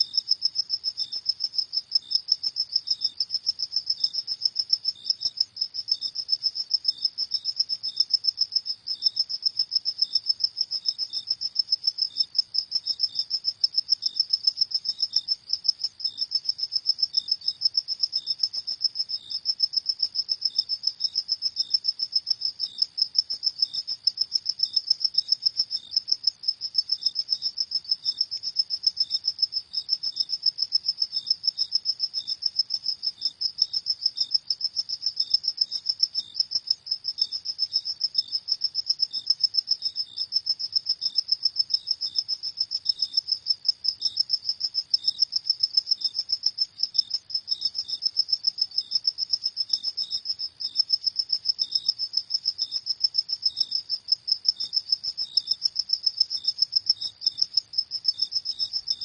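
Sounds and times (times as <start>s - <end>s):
crickets chirping: 0.0s - 59.0s
fainter cricket chirping: 0.0s - 59.0s.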